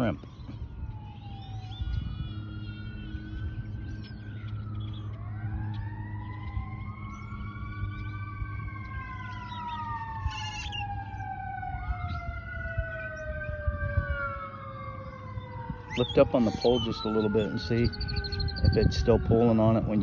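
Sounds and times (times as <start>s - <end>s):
sirens wailing: 0.0s - 20.0s.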